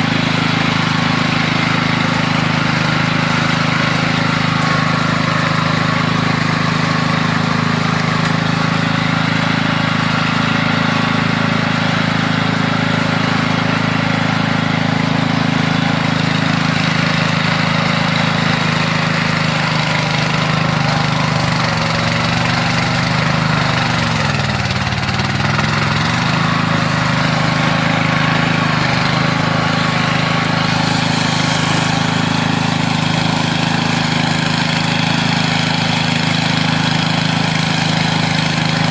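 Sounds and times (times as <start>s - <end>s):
string trimmer engine running: 0.0s - 38.9s.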